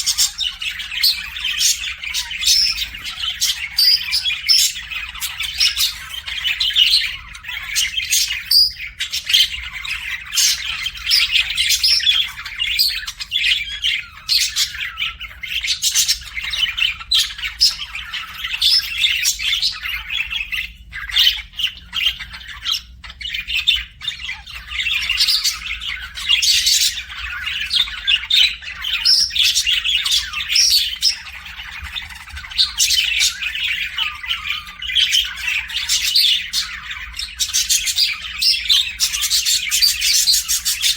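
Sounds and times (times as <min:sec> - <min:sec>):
parrots chirping and squawking: 0:00.0 - 0:40.9.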